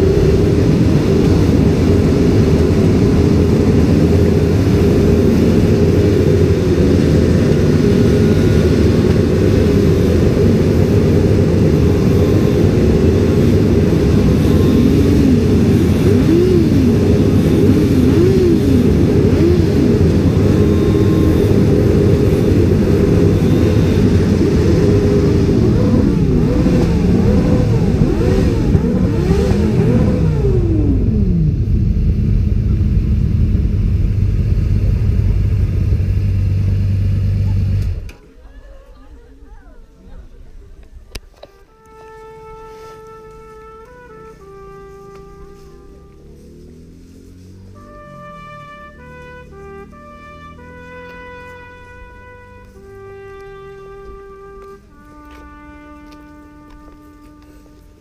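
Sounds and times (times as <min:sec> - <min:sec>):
motorcycle engines revving: 0:00.0 - 0:38.2, 0:41.5 - 0:58.0.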